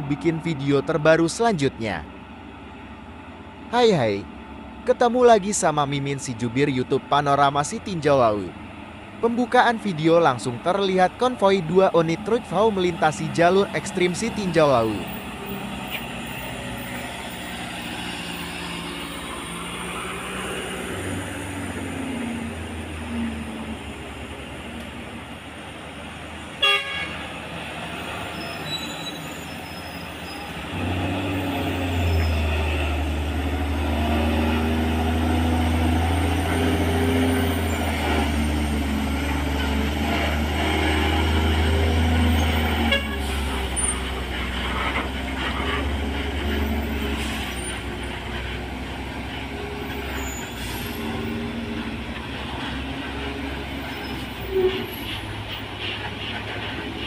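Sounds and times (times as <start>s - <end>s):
truck diesel engine rumbling: 0.0s - 57.0s.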